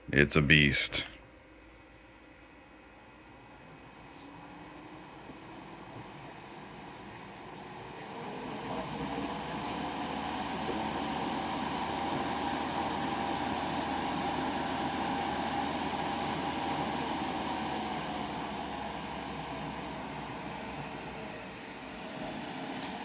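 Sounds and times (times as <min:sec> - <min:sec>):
fan rushing air with whine: 0:01.3 - 0:23.0.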